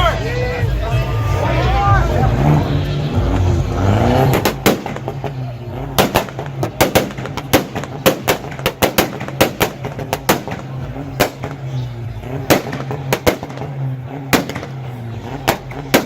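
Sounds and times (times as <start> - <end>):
low engine note: 0.0 - 16.0
exhaust pops and bangs: 3.1 - 16.0.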